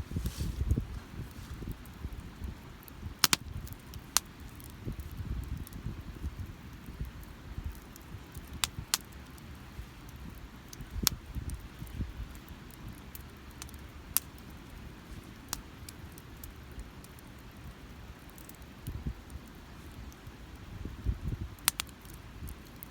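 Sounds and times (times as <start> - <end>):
burning wood popping: 0.0 - 22.9
campfire crackling: 0.0 - 22.9.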